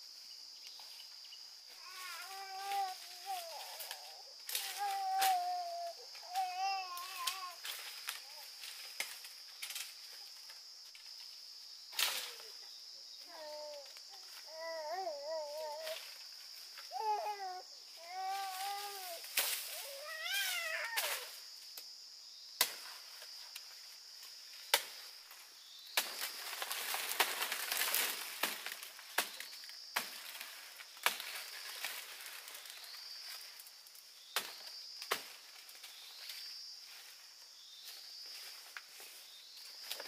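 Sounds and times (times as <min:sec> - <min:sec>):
high insect buzz: 0:00.0 - 0:40.0.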